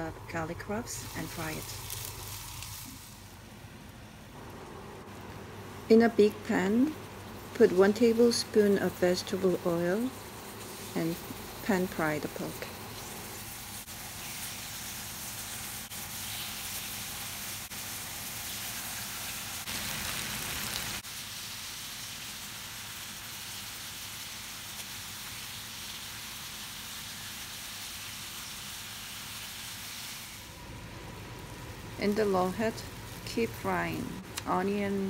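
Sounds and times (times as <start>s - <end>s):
meat sizzling in oil: 1.0s - 3.3s, 6.5s - 33.6s.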